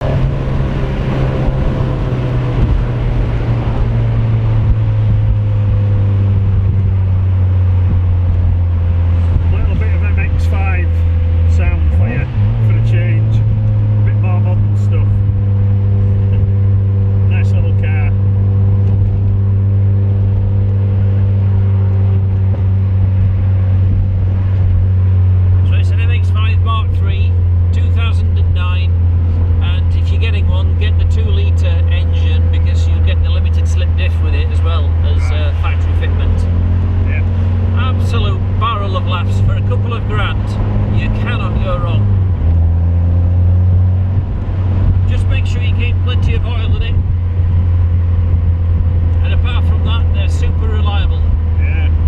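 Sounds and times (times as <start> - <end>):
car engine droning: 0.0 - 52.0.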